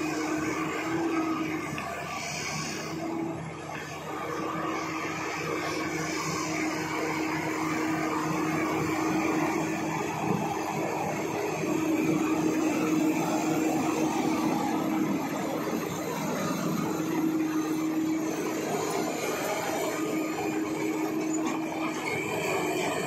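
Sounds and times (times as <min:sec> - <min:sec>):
bulldozer diesel engine droning: 0:00.0 - 0:23.0.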